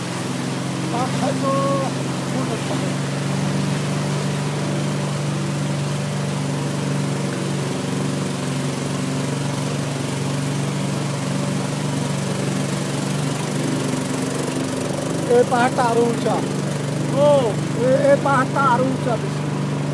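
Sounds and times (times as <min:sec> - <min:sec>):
boat engine humming: 0:00.0 - 0:19.9.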